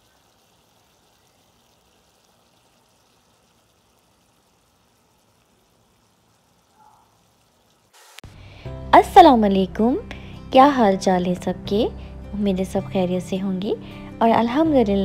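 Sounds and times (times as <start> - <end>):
faint sizzle of simmering food: 0.0 - 15.0.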